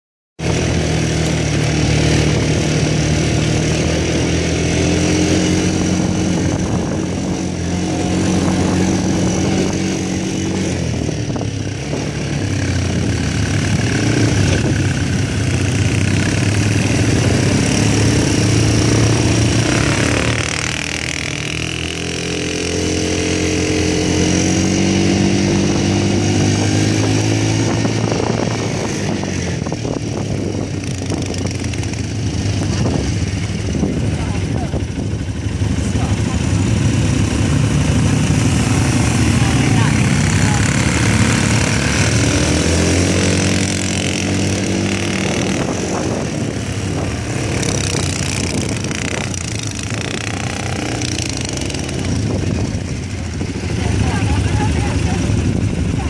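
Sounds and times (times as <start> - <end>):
quad bike engine on sand: 0.4 - 56.0.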